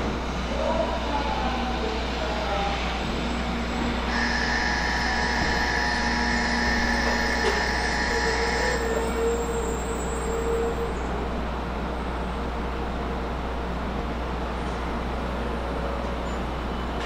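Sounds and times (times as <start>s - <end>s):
train rumbling and braking: 0.0s - 17.0s.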